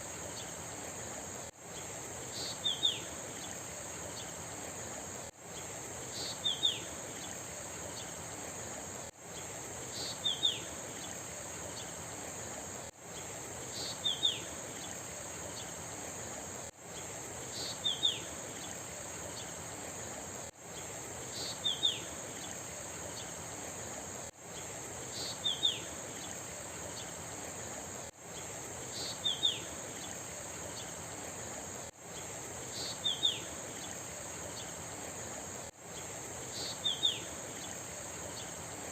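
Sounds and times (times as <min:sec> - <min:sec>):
high insect trill: 0:00.0 - 0:38.9
soft even hiss: 0:00.0 - 0:38.9.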